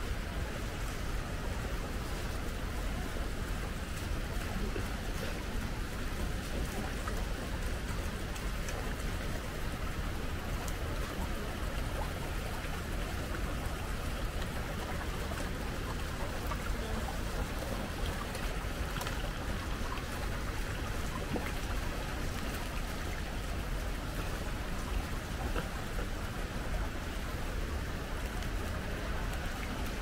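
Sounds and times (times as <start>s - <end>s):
waterfall roaring: 0.0s - 30.0s.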